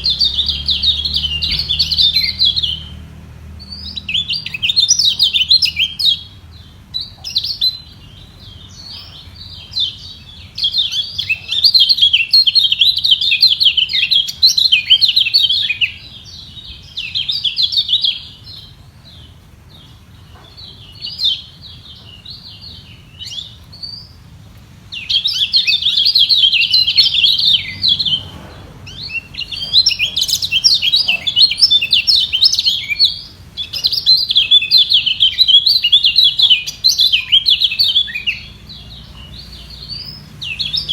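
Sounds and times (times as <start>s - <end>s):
birds twittering song: 0.0s - 40.9s.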